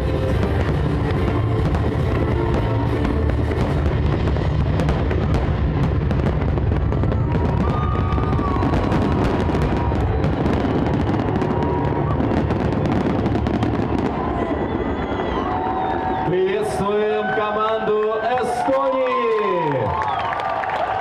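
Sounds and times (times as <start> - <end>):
fireworks bursts and crackling: 0.0 - 20.3.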